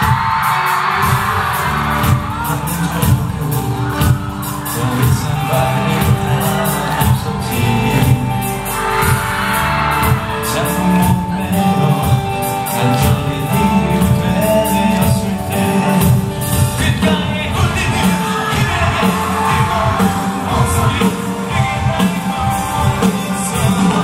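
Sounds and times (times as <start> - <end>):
fans screaming and cheering: 0.0 - 24.0
pop backing track with beat: 0.0 - 24.0
man singing into microphone: 1.0 - 9.2, 10.0 - 24.0.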